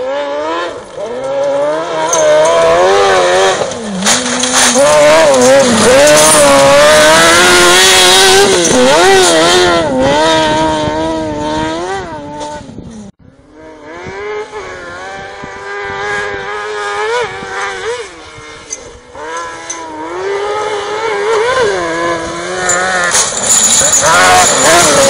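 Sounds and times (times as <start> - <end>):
buggy engine revving hard: 0.0 - 25.0.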